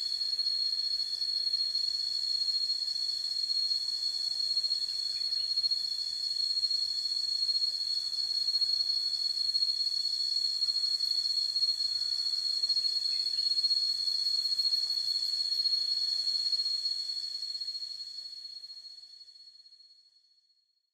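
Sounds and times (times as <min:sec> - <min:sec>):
insects trilling: 0:00.0 - 0:19.3.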